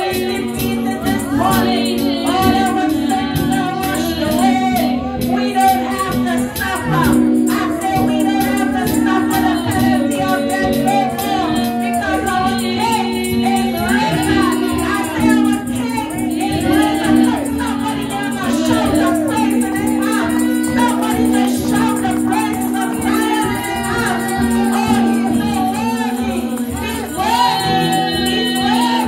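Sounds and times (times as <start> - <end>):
light percussion beat: 0.0 - 29.0
woman singing into microphone: 0.0 - 29.0.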